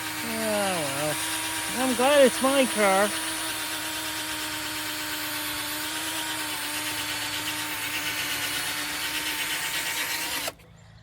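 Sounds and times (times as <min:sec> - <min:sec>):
electric drill motor whine: 0:00.0 - 0:10.6
sanding disc grinding hiss: 0:00.0 - 0:10.6.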